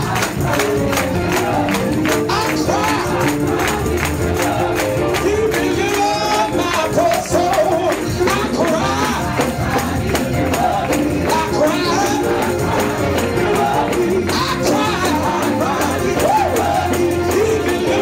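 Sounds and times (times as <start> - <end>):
band with driving percussion: 0.0 - 18.0
voices singing gospel: 0.0 - 18.0.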